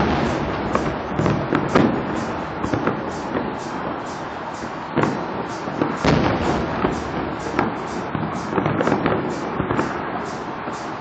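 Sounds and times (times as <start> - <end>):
fireworks bangs and crackles: 0.0 - 11.0
steady background hiss: 0.0 - 11.0.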